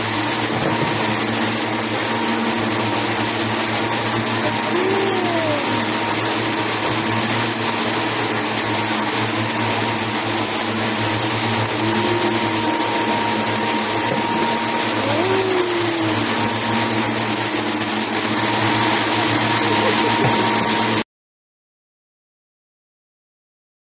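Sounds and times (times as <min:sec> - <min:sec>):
machinery hum: 0:00.0 - 0:21.0
steady whine: 0:00.0 - 0:21.0.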